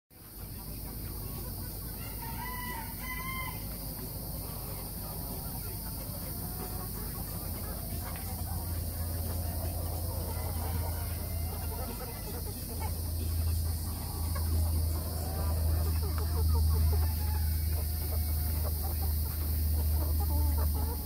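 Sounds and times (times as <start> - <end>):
chickens clucking and chirping: 0.2 - 21.0
cockerels calling: 0.2 - 21.0.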